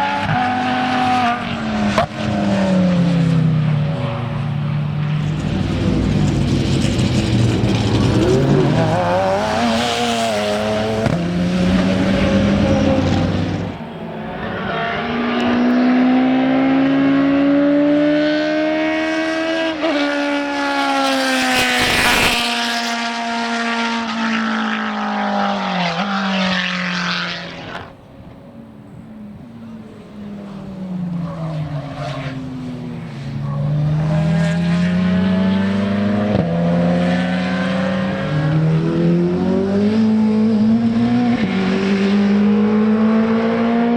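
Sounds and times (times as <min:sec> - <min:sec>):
racing car engines accelerating: 0:00.0 - 0:43.9.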